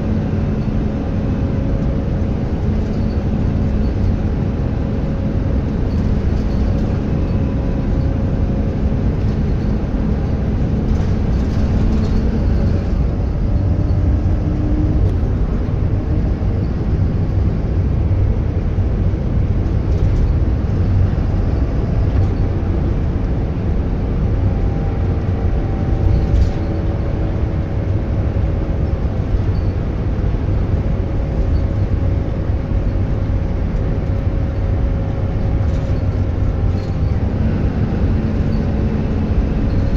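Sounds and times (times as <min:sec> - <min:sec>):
diesel bus engine rumble: 0:00.0 - 0:39.9.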